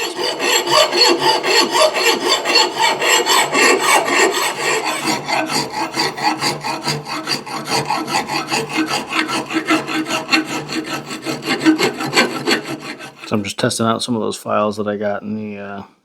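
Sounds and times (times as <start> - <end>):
file rasping on steel: 0.0 - 13.5.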